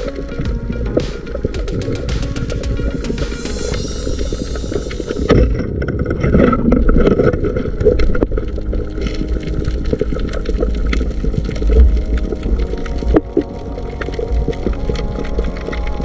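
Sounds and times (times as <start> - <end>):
underwater clicks and knocks: 0.0 - 3.6, 4.8 - 16.0
low underwater rumble: 0.0 - 16.0.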